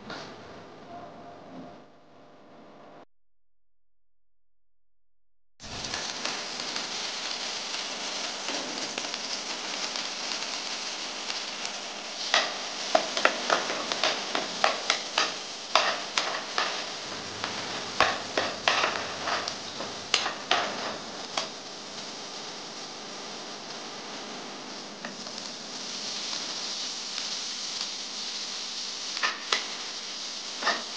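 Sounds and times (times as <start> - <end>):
garlic sizzling in hot oil: 5.6 - 30.9.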